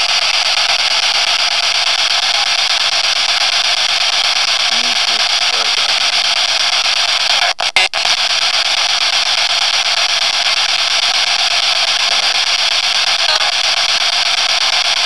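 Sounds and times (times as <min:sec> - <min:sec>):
loud static hiss: 0:00.0 - 0:15.0.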